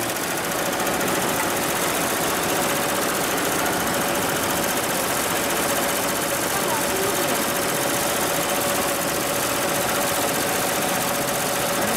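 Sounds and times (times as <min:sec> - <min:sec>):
embroidery machine running: 0:00.0 - 0:11.9.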